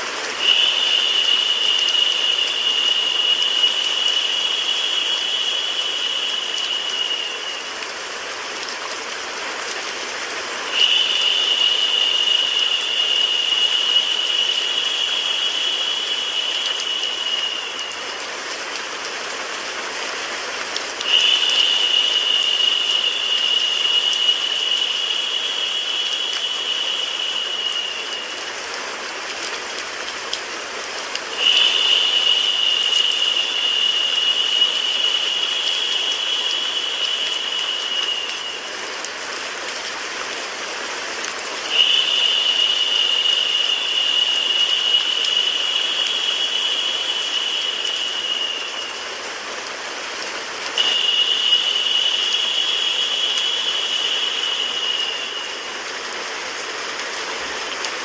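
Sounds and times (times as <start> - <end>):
rain and white noise hiss: 0.0 - 58.0.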